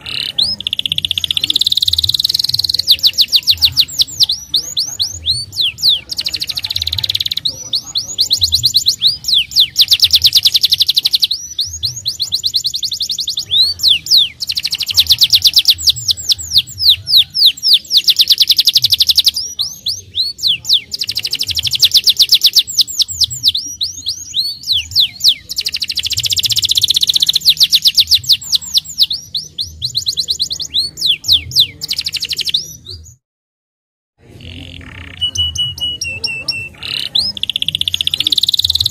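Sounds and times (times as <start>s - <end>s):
canary singing trills: 0.0s - 33.2s, 34.2s - 38.9s.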